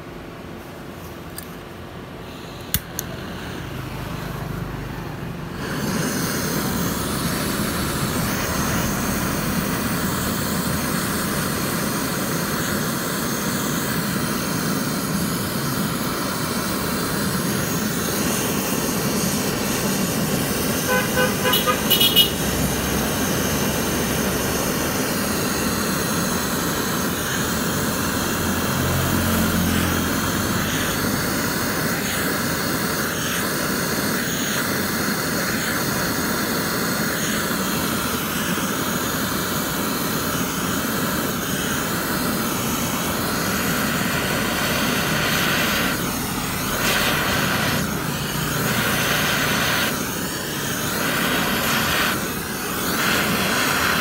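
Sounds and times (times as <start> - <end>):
blowtorch flame hissing: 0.6 - 54.0.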